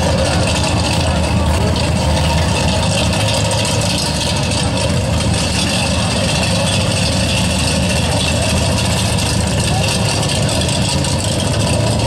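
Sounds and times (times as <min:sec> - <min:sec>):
race car engines idling loudly: 0:00.0 - 0:12.0.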